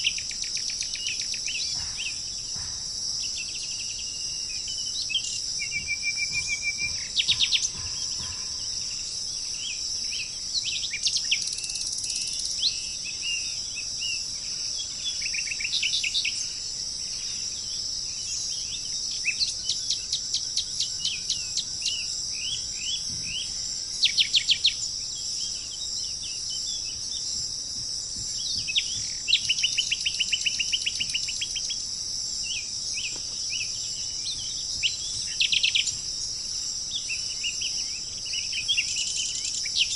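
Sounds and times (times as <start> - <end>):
birds chirping and trilling: 0.0 - 39.9
insects droning: 0.0 - 39.9.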